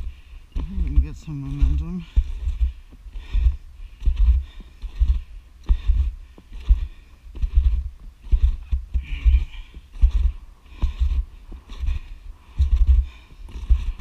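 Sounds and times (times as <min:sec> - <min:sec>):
footsteps crunching on snow: 0:00.0 - 0:14.0.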